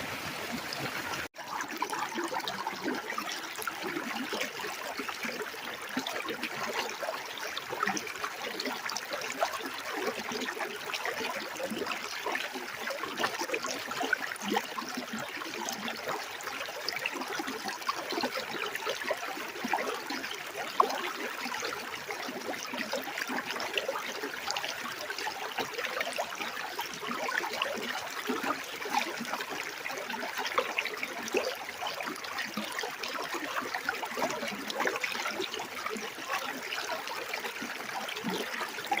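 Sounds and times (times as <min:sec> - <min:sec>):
stream trickling and babbling: 0:00.0 - 0:39.0.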